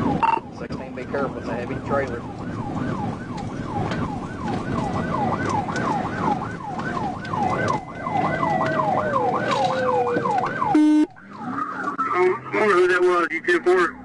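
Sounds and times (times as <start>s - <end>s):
car driving at speed: 0.0s - 14.0s
police siren yelping: 0.0s - 14.0s.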